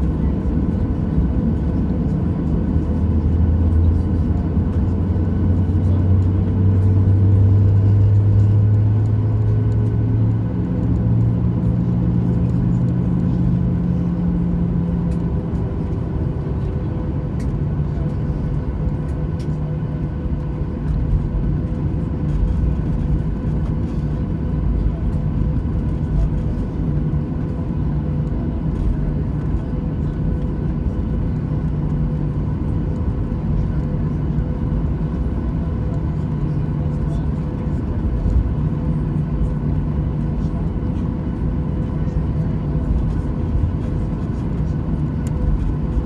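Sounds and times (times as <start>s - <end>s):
jet engines rumbling in cabin: 0.0s - 46.0s.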